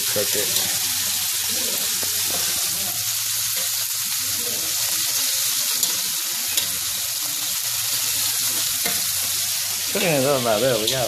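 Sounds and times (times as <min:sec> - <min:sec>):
shrimp sizzling in a wok: 0:00.0 - 0:11.0.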